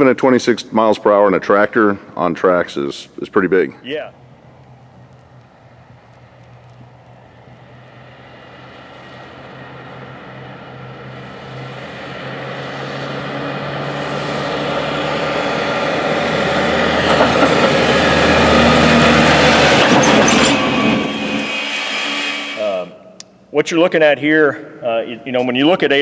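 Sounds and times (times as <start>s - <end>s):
tractor engine and tracks: 0.0s - 22.9s.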